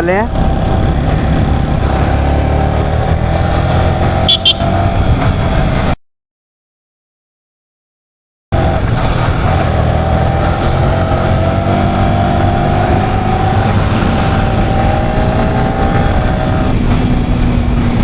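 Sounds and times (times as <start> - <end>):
wind rumble on microphone: 0.0 - 6.0, 8.6 - 18.0.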